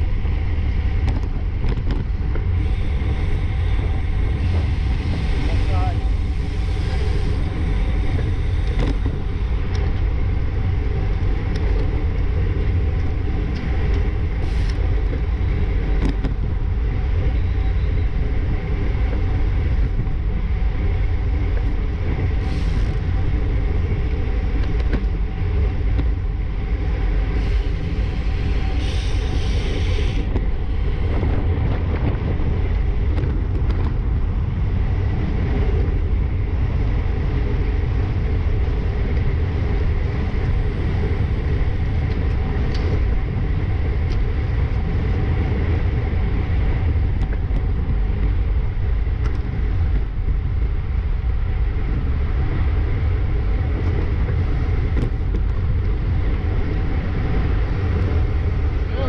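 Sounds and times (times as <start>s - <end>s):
road noise: 0.0s - 59.0s
wind rush on microphone: 0.0s - 59.0s.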